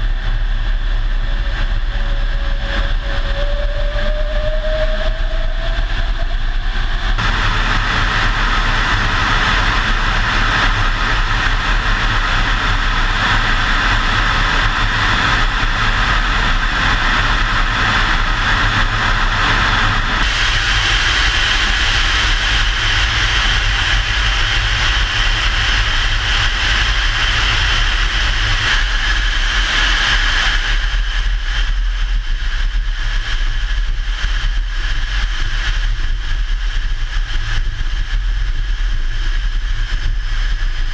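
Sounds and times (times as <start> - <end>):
road and wind noise: 0.0 - 40.9
vehicle engine drone: 0.0 - 40.9.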